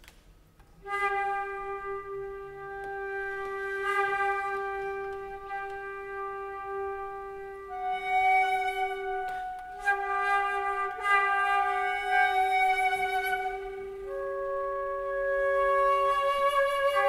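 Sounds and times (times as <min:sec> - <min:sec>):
flute holding low note: 0:00.8 - 0:17.0
flute playing higher notes: 0:00.8 - 0:17.0.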